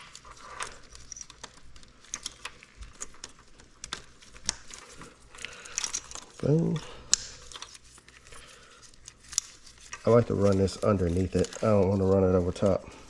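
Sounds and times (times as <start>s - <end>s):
wiring harness clicking and rustling: 0.0s - 12.9s.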